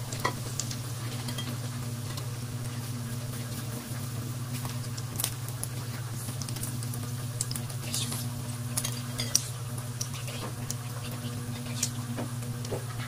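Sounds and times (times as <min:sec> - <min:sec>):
oil crackling and popping: 0:00.0 - 0:13.0
steady low hum: 0:00.0 - 0:13.0.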